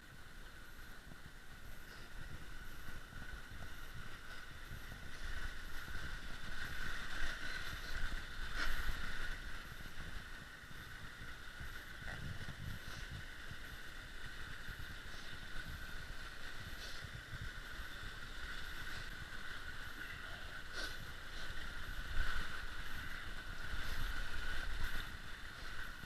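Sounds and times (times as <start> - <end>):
creek flowing: 0.0 - 26.0
wind rumble on microphone: 0.0 - 26.0.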